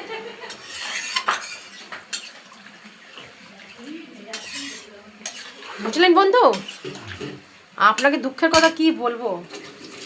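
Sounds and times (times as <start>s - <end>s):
metal utensils and dishes clinking: 0.4s - 2.6s, 3.2s - 10.0s.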